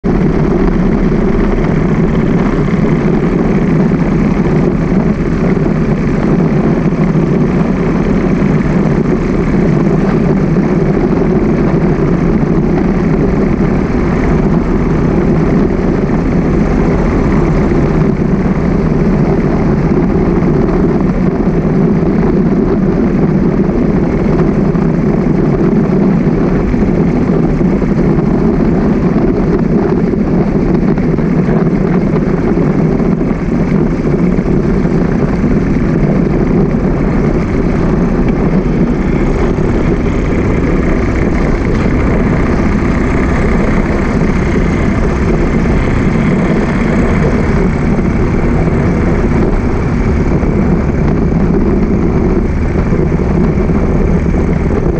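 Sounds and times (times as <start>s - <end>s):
motorcycle engine rumble: 0.0s - 54.9s
traffic: 0.0s - 54.9s
wind on camera: 0.0s - 54.9s.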